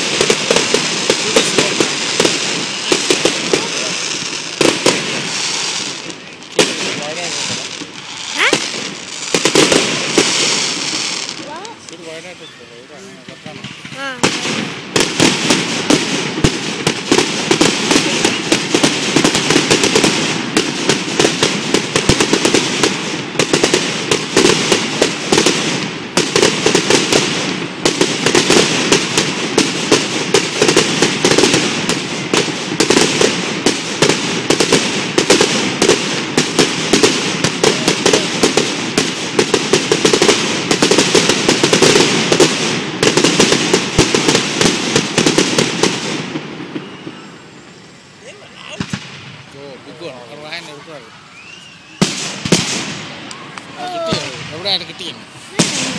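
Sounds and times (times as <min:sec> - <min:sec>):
fireworks crackling bangs: 0:00.0 - 0:55.9.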